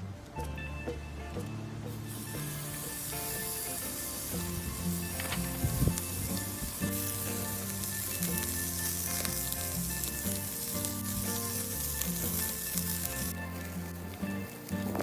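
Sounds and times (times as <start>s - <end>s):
background music with low notes: 0.0s - 15.0s
crackling hiss: 1.4s - 15.0s.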